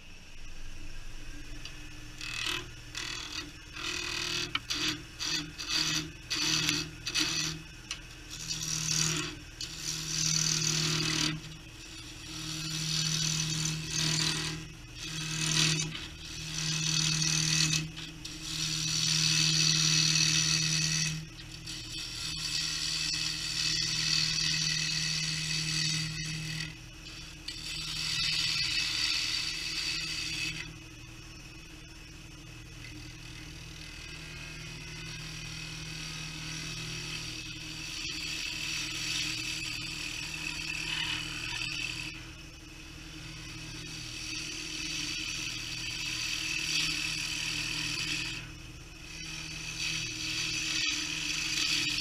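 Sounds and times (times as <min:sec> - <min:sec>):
wood lathe humming: 0:00.9 - 0:52.0
turning tool scraping wood: 0:01.6 - 0:30.8, 0:32.8 - 0:42.3, 0:43.2 - 0:52.0.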